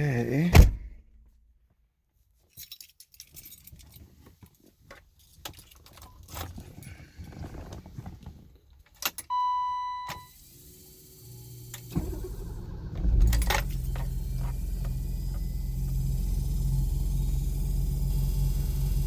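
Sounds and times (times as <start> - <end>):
car keys jangling: 2.4 - 7.8, 8.5 - 19.0.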